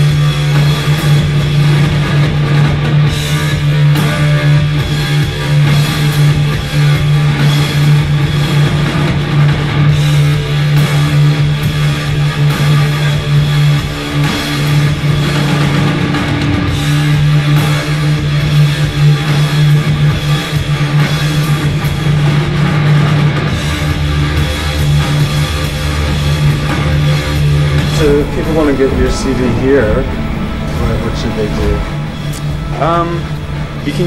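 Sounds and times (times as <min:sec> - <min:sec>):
distorted electric guitars droning: 0:00.0 - 0:34.0.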